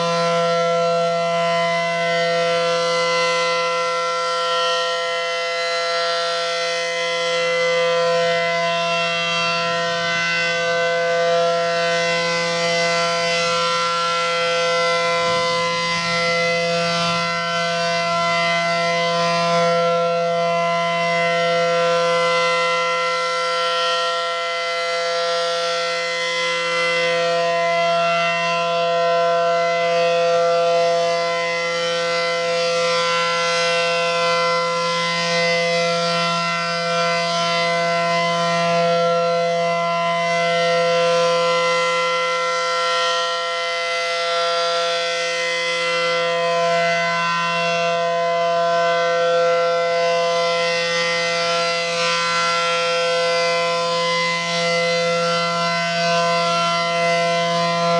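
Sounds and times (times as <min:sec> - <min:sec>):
warning siren steady chord: 0:00.0 - 0:57.9.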